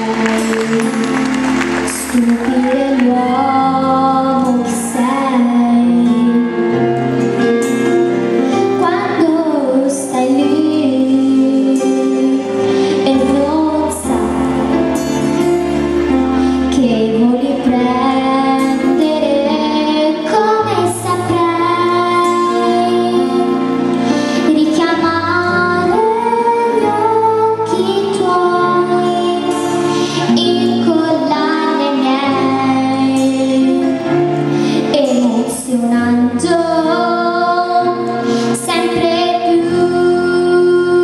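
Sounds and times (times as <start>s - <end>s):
live band with bass and cymbals: 0.0s - 9.4s, 11.7s - 41.0s
girl singing pop ballad: 0.0s - 41.0s.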